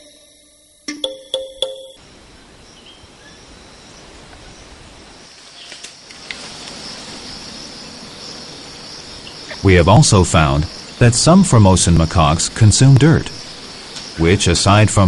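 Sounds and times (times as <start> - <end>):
insects buzzing: 2.0 - 15.0.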